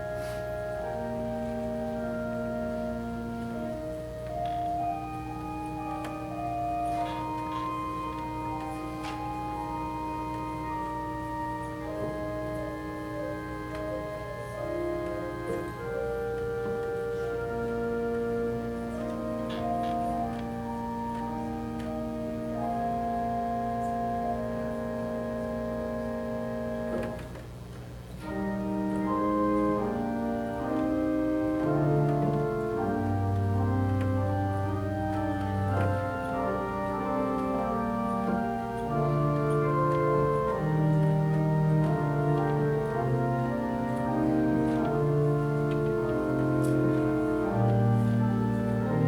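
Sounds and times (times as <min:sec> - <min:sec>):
low organ pedal bass notes: 0:00.0 - 0:27.4, 0:28.1 - 0:49.0
church organ playing: 0:00.0 - 0:49.0.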